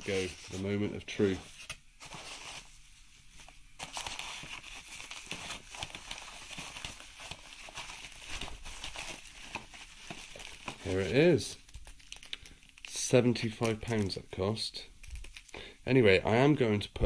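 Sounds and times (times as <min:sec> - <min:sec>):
bubble wrap crackling: 0:00.0 - 0:14.4, 0:15.0 - 0:15.6.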